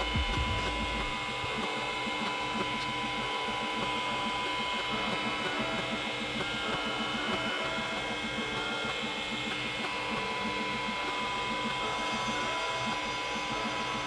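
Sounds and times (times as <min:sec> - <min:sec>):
pulsing machine whine: 0:00.0 - 0:14.0.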